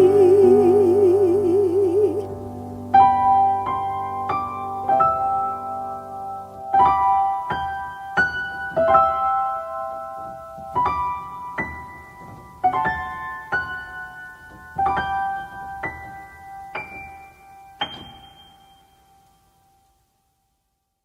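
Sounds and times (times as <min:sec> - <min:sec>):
solo piano slow melody: 0:00.0 - 0:20.8.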